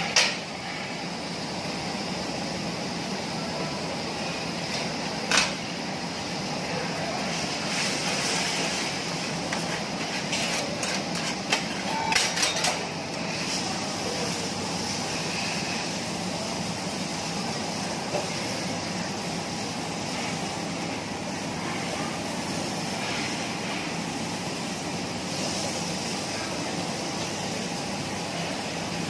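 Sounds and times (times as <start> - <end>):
griddle hissing: 0.0 - 29.0.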